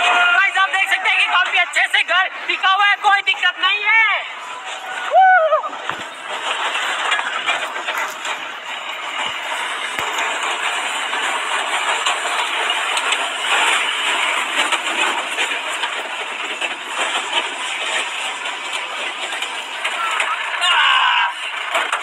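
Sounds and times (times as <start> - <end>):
truck engine and tyre noise: 0.0 - 22.0.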